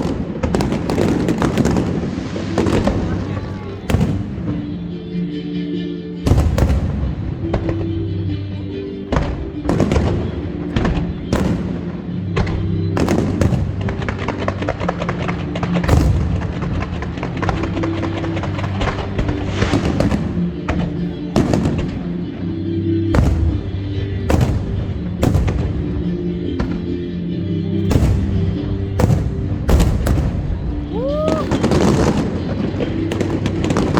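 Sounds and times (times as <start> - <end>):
fireworks bangs and crackle: 0.0 - 4.6, 6.3 - 7.8, 9.1 - 22.2, 23.2 - 27.0, 27.9 - 33.9
loud music: 0.0 - 33.9.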